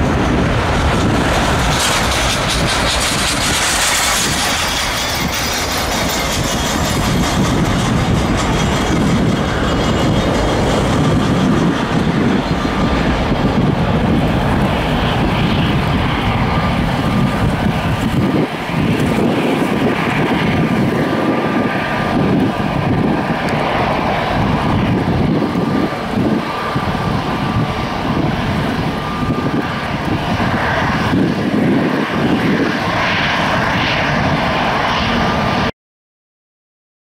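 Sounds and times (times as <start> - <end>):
jet engines roaring: 0.0 - 35.7.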